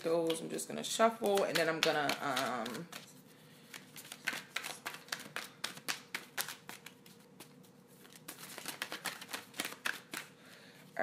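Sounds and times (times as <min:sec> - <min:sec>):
cards being shuffled: 0:01.1 - 0:10.4.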